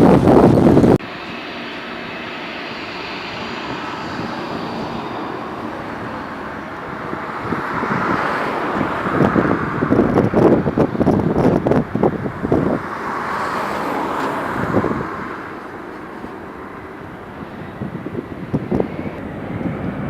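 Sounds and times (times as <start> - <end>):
jet engines rushing: 0.0 - 20.0
wind buffeting microphone: 0.0 - 20.0.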